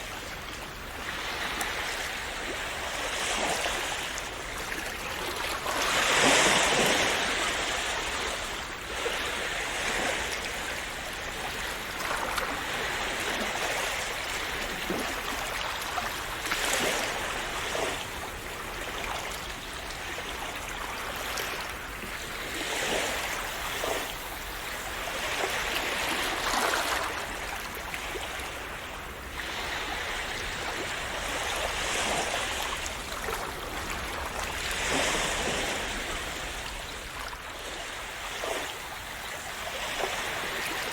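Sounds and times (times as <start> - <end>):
waves washing ashore: 0.0 - 40.9.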